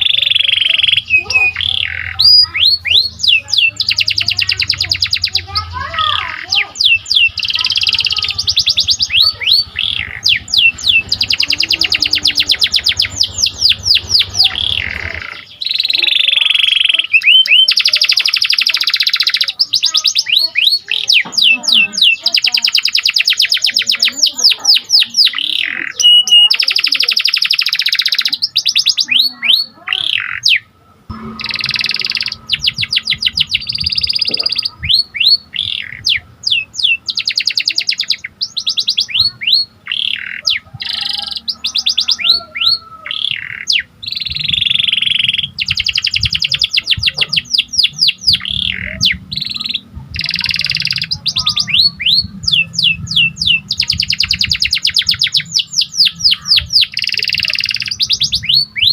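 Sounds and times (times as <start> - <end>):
canary singing: 0.0 - 58.9.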